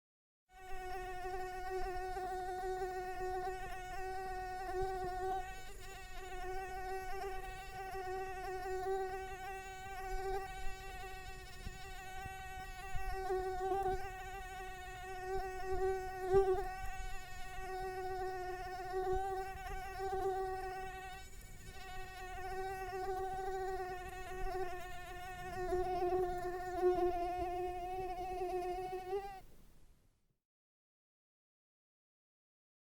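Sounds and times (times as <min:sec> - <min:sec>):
mosquito buzzing in flight: 0:00.5 - 0:29.5.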